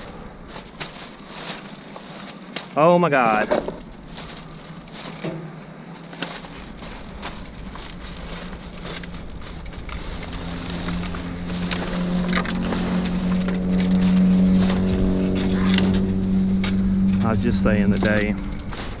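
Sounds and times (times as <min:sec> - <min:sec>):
items clicking and rustling: 0:00.0 - 0:17.3, 0:17.9 - 0:19.0
vehicle engine humming: 0:00.0 - 0:19.0.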